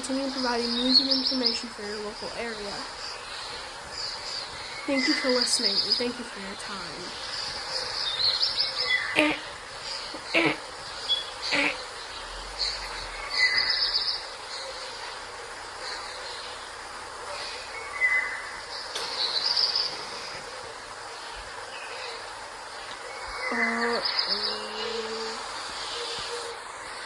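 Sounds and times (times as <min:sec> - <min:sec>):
birds chirping and trilling: 0:00.0 - 0:27.0
steady outdoor hiss: 0:00.0 - 0:27.0.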